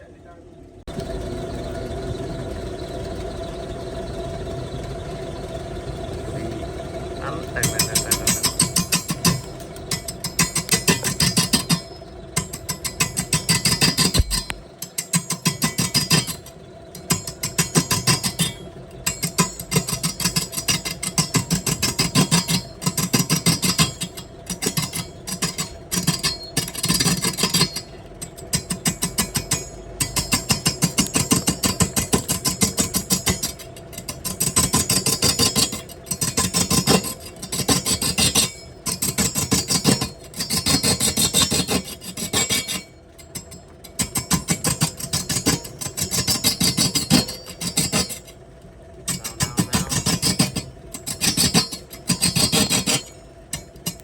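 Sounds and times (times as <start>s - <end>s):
steady machine hum: 0.0s - 54.0s
tool scraping wood on a lathe: 7.3s - 54.0s.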